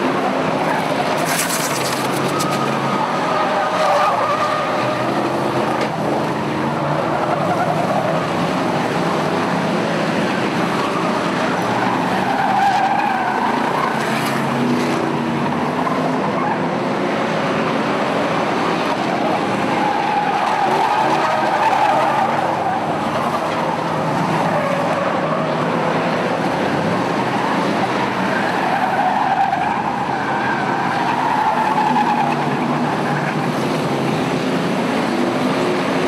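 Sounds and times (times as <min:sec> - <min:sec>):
race car engines running hard: 0:00.0 - 0:36.0
tires squealing: 0:00.0 - 0:36.0.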